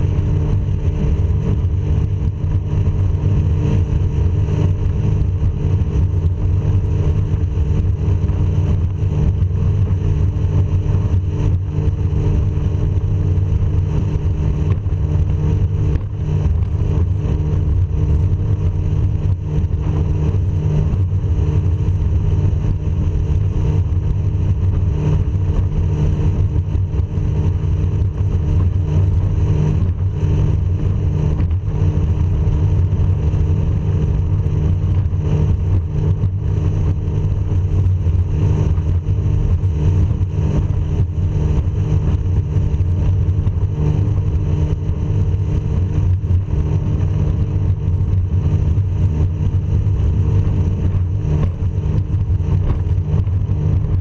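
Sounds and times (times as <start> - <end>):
powerboat engine droning: 0.0 - 54.0.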